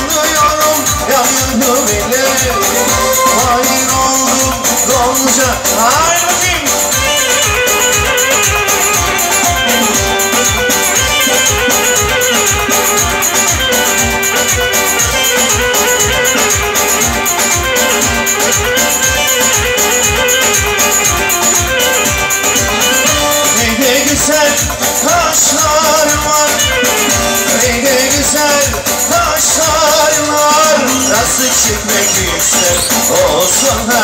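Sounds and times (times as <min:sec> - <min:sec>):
instrumental dance music: 0:00.0 - 0:34.0
steady drum beat: 0:00.0 - 0:34.0.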